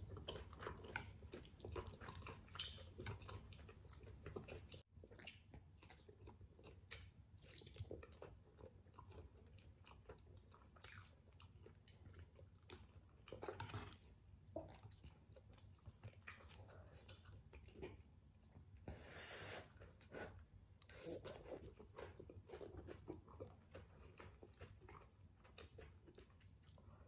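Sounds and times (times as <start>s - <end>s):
person chewing noodles: 0.0s - 27.0s.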